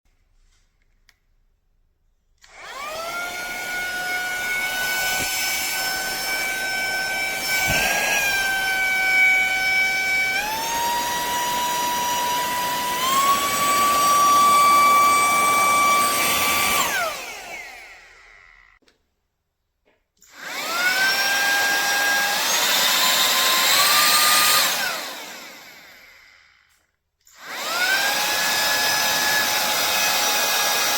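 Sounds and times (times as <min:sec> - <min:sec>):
handheld vacuum cleaner whining: 0:02.4 - 0:18.9, 0:20.2 - 0:30.9.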